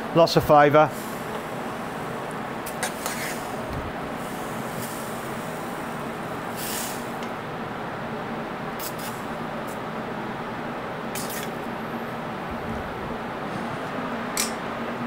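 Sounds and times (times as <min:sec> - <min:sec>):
kitchen ventilation hum: 0:00.0 - 0:15.0.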